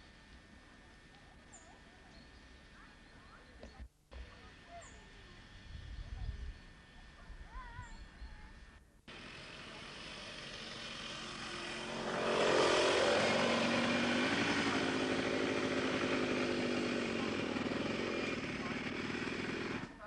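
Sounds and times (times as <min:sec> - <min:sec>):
small engine droning: 0:00.0 - 0:20.0.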